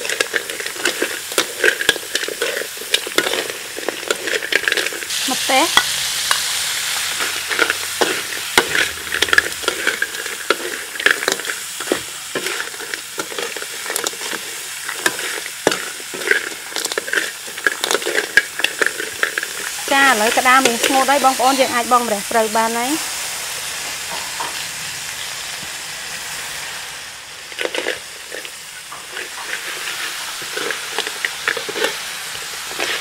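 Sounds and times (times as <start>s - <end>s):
spatula scraping crab shells: 0.0s - 22.3s, 27.5s - 33.0s
food sizzling in a wok: 0.0s - 33.0s.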